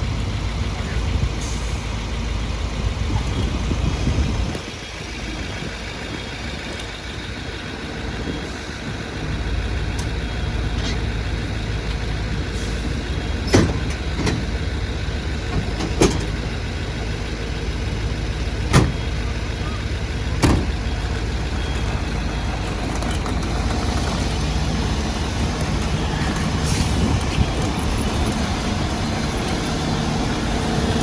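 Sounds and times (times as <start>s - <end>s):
diesel engines idling: 0.0s - 31.0s.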